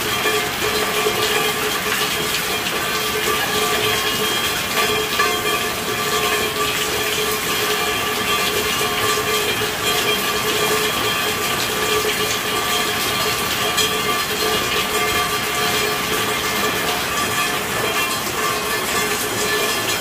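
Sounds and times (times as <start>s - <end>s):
steady rain patter: 0.0s - 20.0s.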